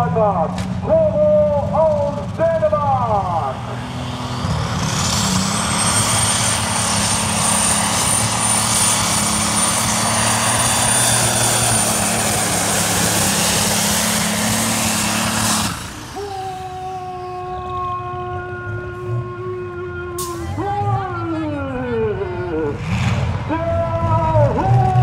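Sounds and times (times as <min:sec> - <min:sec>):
diesel engine roaring: 0:00.0 - 0:25.0
falling turbo whine: 0:02.4 - 0:25.0.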